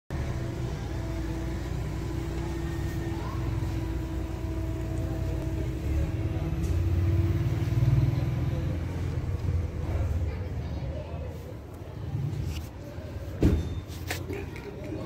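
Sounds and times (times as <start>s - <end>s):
engine rumbling: 0.1s - 15.0s.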